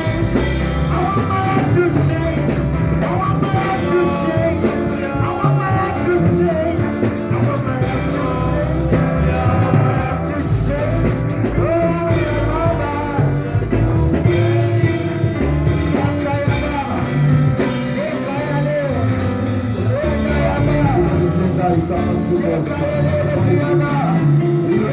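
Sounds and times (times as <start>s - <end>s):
person singing: 0.0s - 24.9s
rock band playing: 0.0s - 24.9s.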